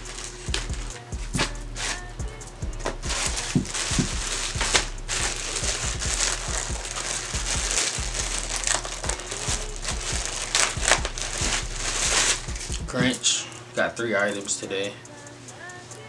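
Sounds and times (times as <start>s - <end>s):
plastic wrapping crinkling: 0.0s - 15.8s.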